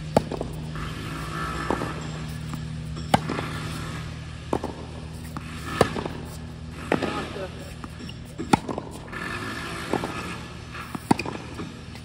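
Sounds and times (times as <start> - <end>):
low hum: 0.0 - 12.0
tennis ball hits: 0.0 - 12.0.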